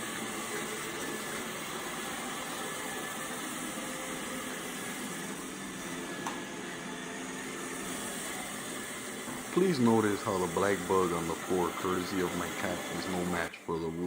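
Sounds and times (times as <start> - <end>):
robot vacuum running: 0.0 - 14.0.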